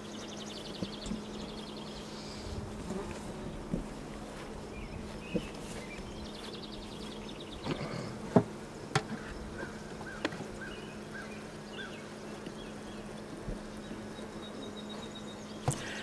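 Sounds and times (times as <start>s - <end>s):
honeybees buzzing: 0.1s - 16.0s.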